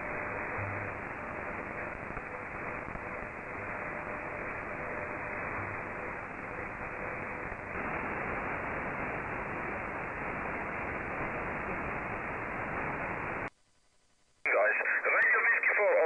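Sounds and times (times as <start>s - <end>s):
faint steady tone: 0.0s - 14.4s
radio static hiss: 0.0s - 16.0s.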